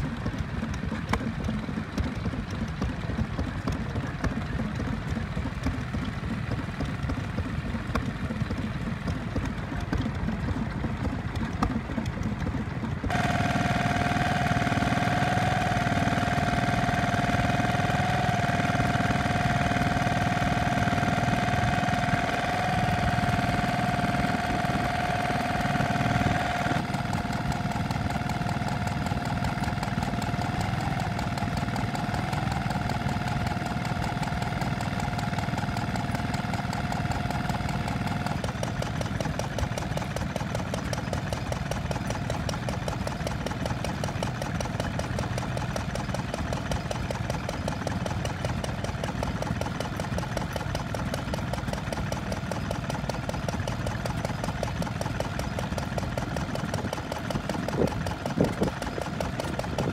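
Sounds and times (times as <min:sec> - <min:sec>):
engine with high tone: 0:00.0 - 0:59.9
small engine fast firing: 0:11.3 - 0:59.9.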